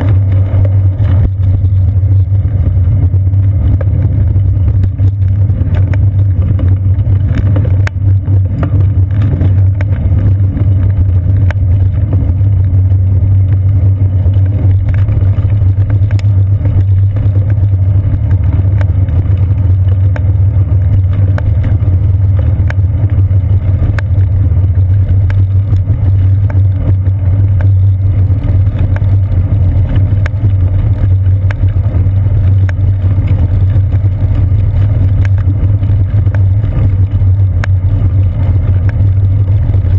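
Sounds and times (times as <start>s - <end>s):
small clicks and rattles: 0.0s - 39.9s
wind and bicycle rumble: 0.0s - 39.9s.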